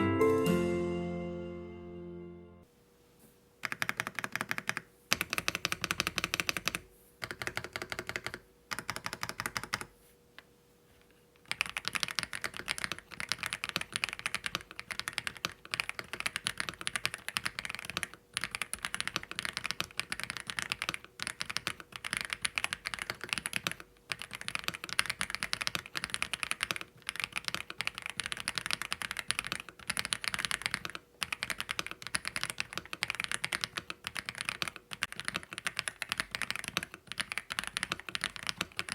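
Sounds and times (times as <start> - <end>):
mechanical keyboard typing: 3.6 - 9.9, 11.4 - 38.9.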